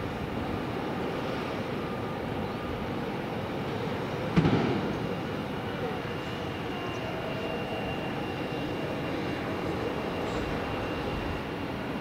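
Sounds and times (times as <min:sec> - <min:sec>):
aircraft engines running: 0:00.0 - 0:12.0
faint whining tones: 0:00.0 - 0:12.0.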